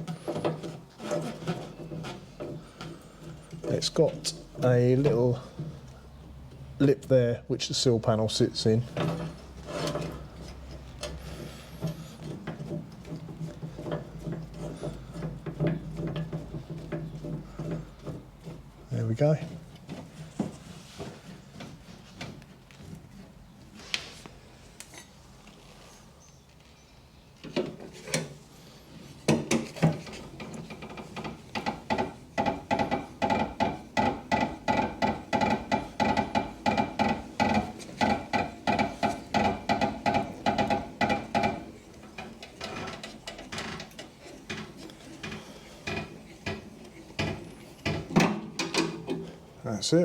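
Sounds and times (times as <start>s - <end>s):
car jack squeaking: 0.0s - 5.9s, 8.6s - 22.5s, 27.6s - 49.5s.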